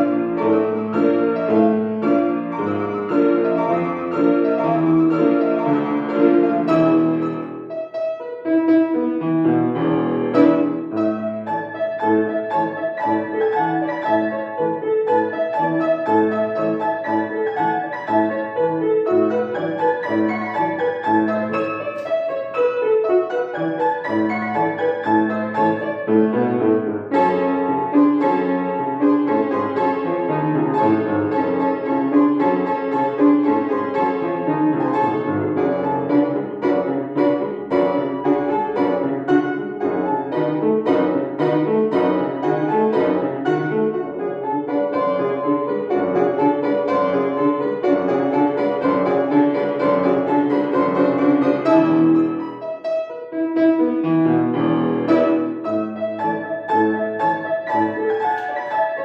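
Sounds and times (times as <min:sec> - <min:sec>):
solo piano classical piece: 0:00.0 - 0:59.0.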